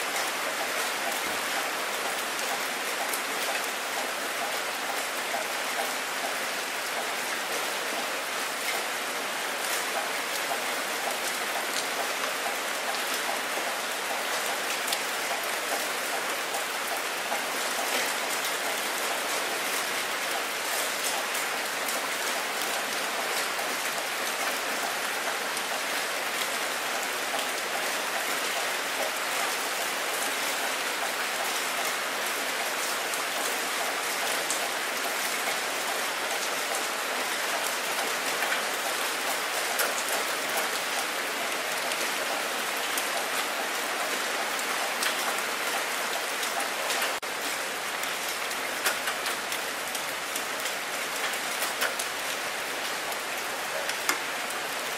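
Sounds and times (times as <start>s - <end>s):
rain falling on water: 0.0s - 54.9s.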